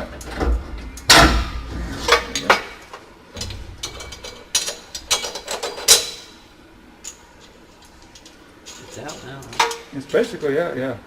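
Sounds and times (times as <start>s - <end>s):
metallic clanks and rattles: 0.0s - 10.4s.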